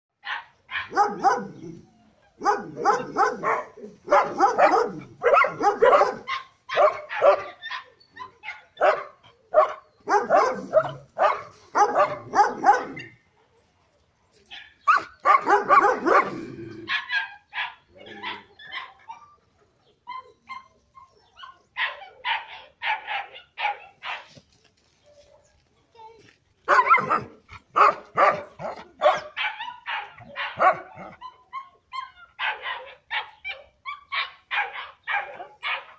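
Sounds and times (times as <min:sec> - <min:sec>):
dogs barking: 0:00.2 - 0:01.8, 0:02.4 - 0:13.2, 0:14.5 - 0:19.4, 0:21.3 - 0:24.3, 0:26.7 - 0:35.9.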